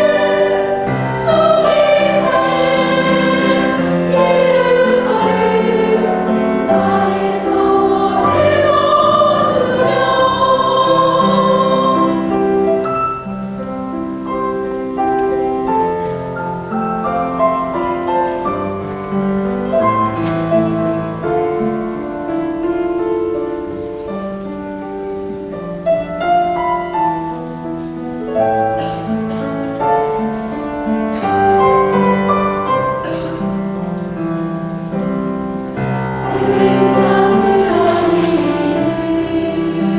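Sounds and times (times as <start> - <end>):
choir singing a hymn: 0.0 - 39.9
piano accompaniment: 0.0 - 39.9.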